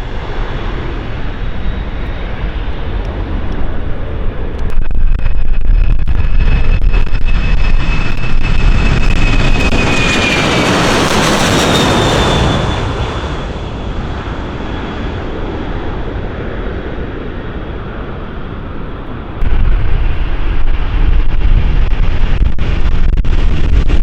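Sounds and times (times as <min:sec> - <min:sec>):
high fan whine: 0:00.0 - 0:24.0
jet engines roaring: 0:00.0 - 0:24.0.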